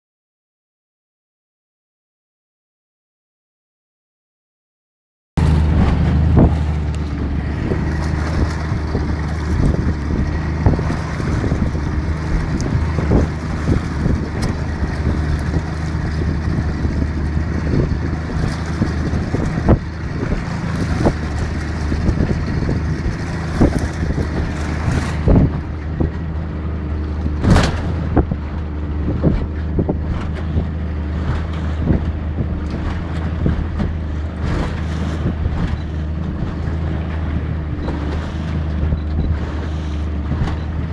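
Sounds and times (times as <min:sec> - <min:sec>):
hull slapping waves: 0:05.4 - 0:40.9
outboard motor running: 0:05.4 - 0:40.9
water rushing past hull: 0:05.4 - 0:40.9
wind buffeting microphone: 0:05.4 - 0:40.9.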